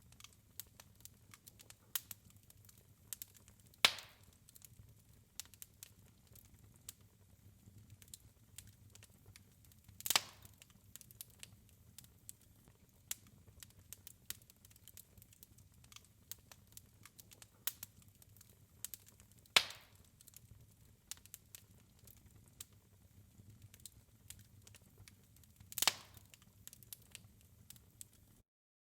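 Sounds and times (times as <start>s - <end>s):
fireplace crackling and popping: 0.0s - 28.4s.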